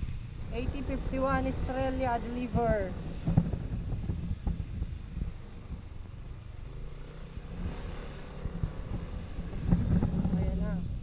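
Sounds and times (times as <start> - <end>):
low rumble: 0.0 - 11.0
scooter engine running: 0.0 - 11.0.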